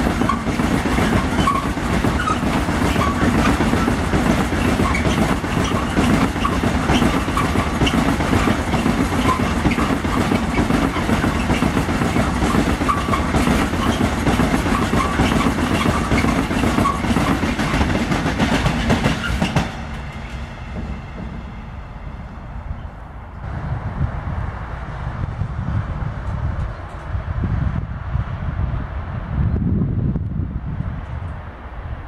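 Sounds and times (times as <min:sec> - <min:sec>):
train wheels rattling on rails: 0:00.0 - 0:23.6, 0:24.8 - 0:27.7.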